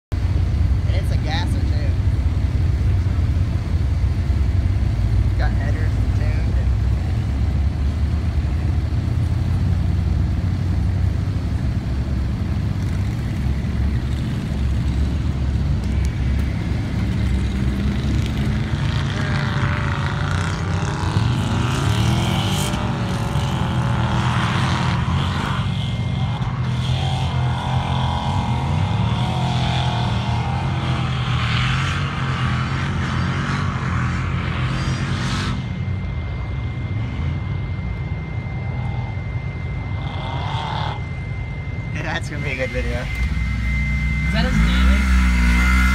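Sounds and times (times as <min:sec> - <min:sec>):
low engine drone: 0:00.1 - 0:45.9
pickup engine revving: 0:00.9 - 0:35.7, 0:39.8 - 0:41.2, 0:42.0 - 0:45.9.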